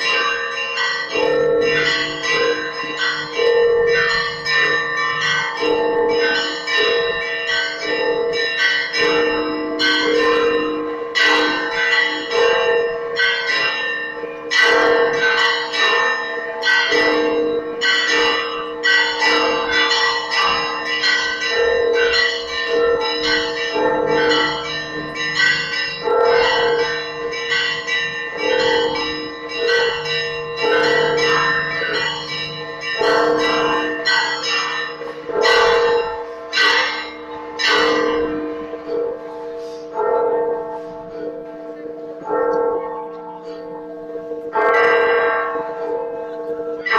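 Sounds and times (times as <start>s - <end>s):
deep church bell: 0.0s - 46.9s
low church bell: 0.0s - 46.9s
small church bells ringing: 0.0s - 46.9s.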